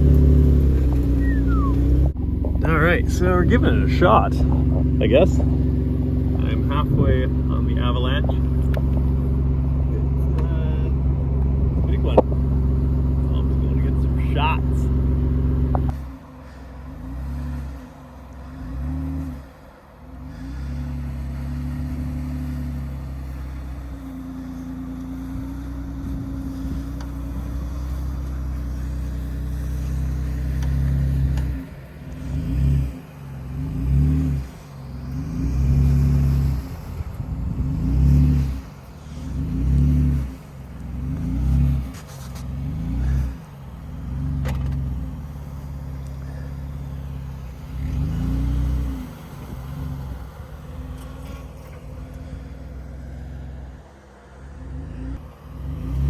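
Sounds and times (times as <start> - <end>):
off-road engine revving: 0.0 - 56.0.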